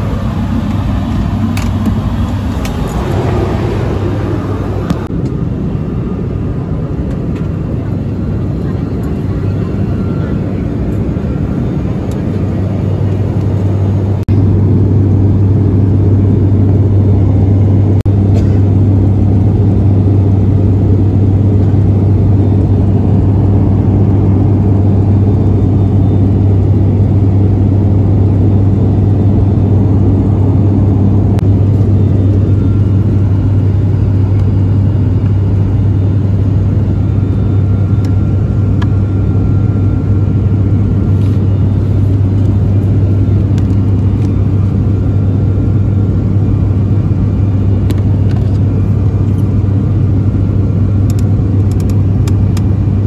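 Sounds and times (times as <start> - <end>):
turboprop cabin drone: 0.0 - 53.0.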